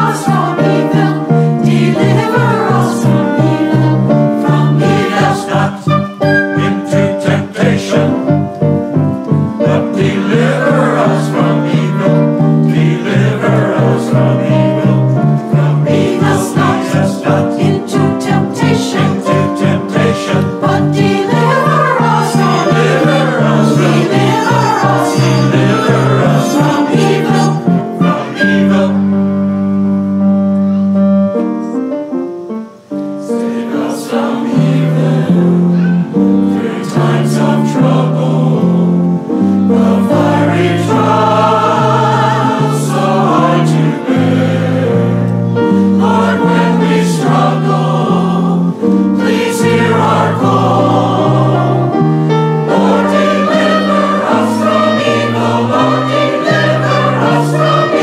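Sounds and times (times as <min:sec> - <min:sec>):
church choir singing: 0:00.0 - 0:30.9, 0:33.2 - 0:58.0
small instrumental ensemble: 0:00.0 - 0:58.0.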